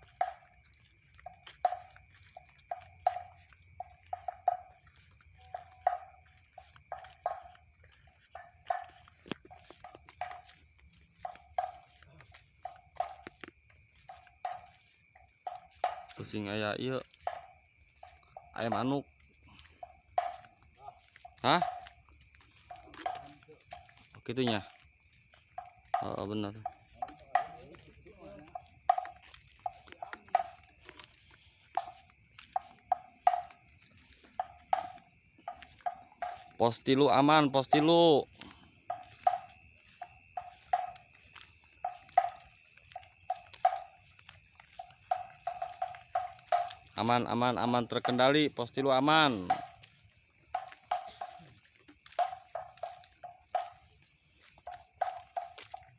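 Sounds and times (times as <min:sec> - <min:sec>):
hollow knocks with ringing tone: 0:00.0 - 0:55.9
night insects chirring: 0:00.0 - 0:55.9.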